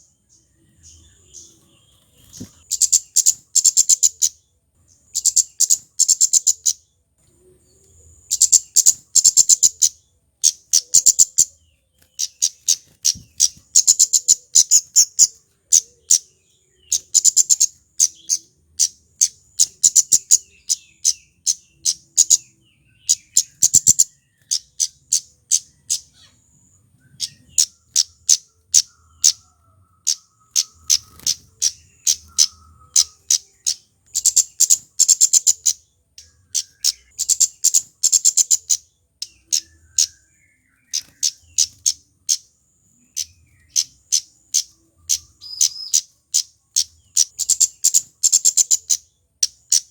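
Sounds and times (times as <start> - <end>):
bird high sharp ticking calls: 0.0 - 49.9.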